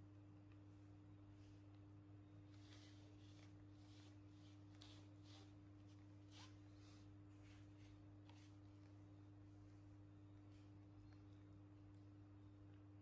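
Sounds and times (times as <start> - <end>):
low electrical hum: 0.0 - 13.0
soft scratchy noises: 0.6 - 12.5.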